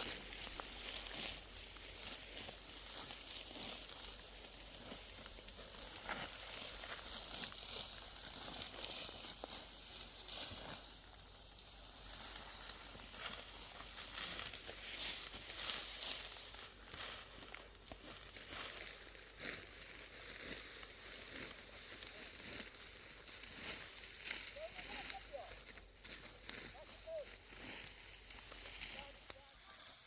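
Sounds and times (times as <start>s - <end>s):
dry wheat stalks rustling: 0.0s - 30.0s.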